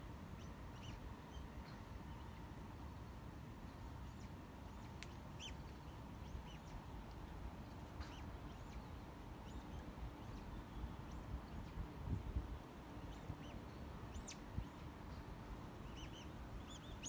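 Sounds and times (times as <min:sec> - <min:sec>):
songbirds chirping: 0:00.1 - 0:17.0.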